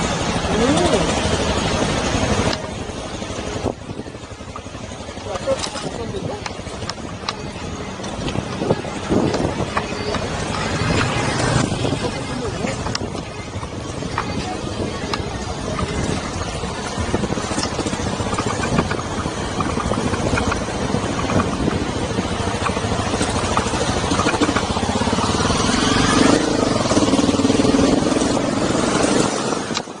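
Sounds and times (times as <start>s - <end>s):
motorcycle engine riding: 0.0s - 30.0s.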